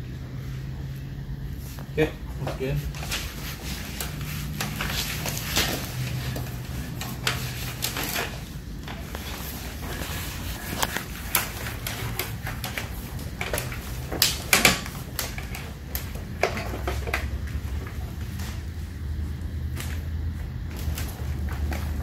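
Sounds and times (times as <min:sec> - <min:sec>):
steady low hum: 0:00.0 - 0:22.0
rustles and clicks of handling: 0:00.2 - 0:22.0.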